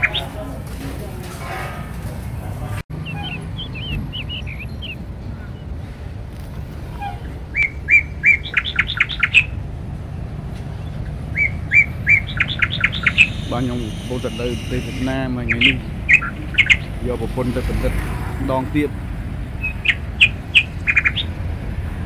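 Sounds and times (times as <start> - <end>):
songbird singing: 0.0 - 1.1, 2.9 - 21.6
road traffic rumble: 0.0 - 22.0.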